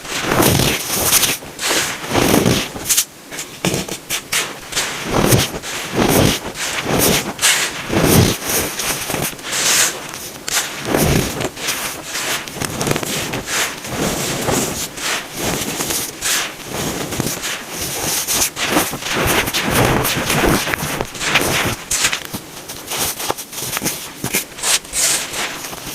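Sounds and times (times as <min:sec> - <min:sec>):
baking soda crunching: 0:04.3 - 0:25.9.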